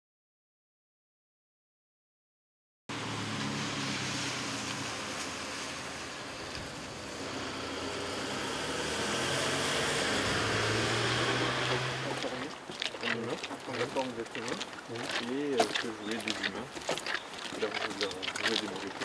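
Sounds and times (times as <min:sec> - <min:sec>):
road traffic rush: 0:02.9 - 0:19.0.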